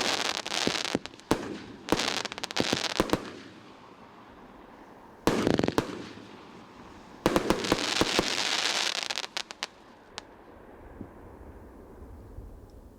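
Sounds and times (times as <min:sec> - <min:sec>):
fireworks crackling: 0:00.0 - 0:10.7.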